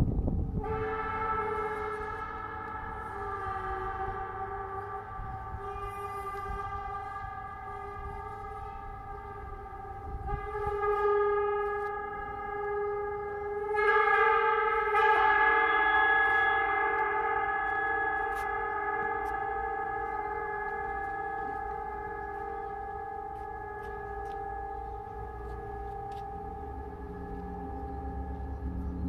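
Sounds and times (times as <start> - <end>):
gong ringing: 0.6 - 29.0.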